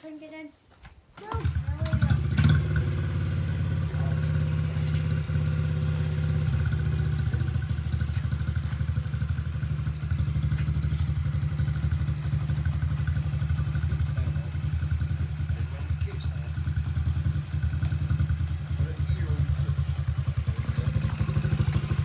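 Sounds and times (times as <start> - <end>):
small motorcycle engine idling: 1.2 - 22.0.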